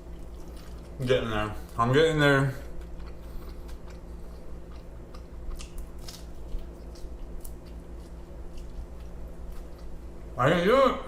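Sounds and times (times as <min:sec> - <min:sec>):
man chewing food: 0:00.0 - 0:10.4
steady low hum: 0:00.0 - 0:11.0.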